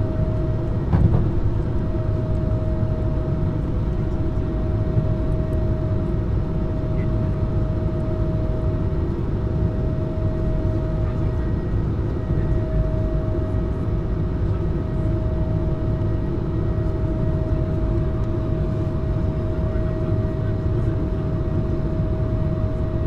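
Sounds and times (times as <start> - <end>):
jet cabin rumble: 0.0 - 23.0
jet engine whine: 0.0 - 23.0.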